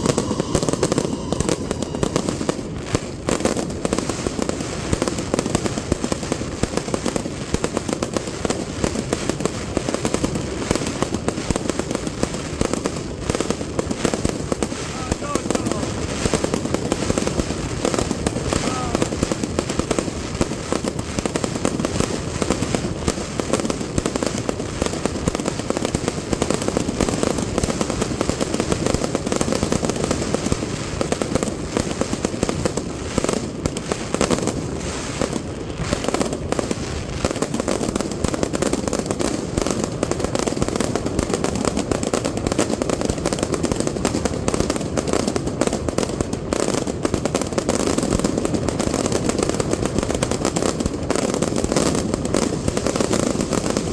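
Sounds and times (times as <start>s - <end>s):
fireworks bangs: 0.0s - 53.9s.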